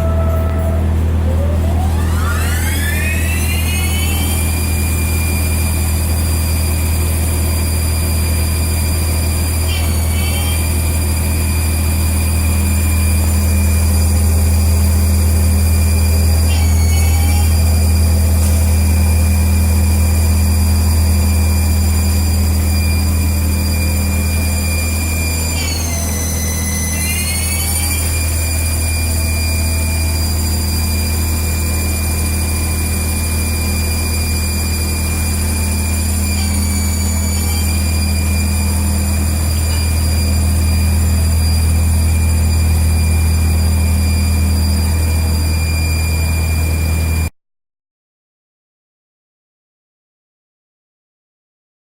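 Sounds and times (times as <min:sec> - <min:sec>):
lathe high electric whine: 0:00.0 - 0:47.3
lathe low hum: 0:00.0 - 0:47.3.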